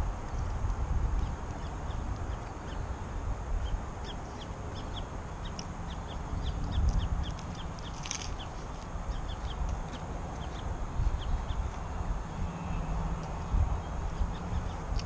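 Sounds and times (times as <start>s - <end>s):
wind rumble on microphone: 0.0s - 15.0s
bird chirping: 1.2s - 15.0s.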